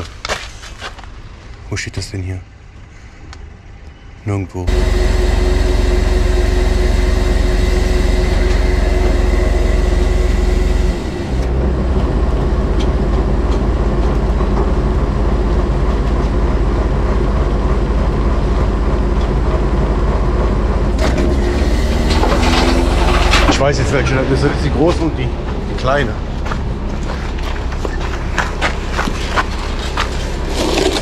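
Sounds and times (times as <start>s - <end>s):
truck engine droning: 4.7s - 31.0s.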